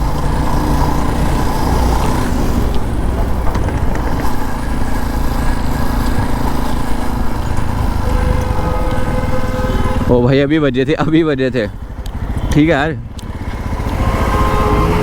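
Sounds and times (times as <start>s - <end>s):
motorcycle engine hum: 0.0s - 15.0s.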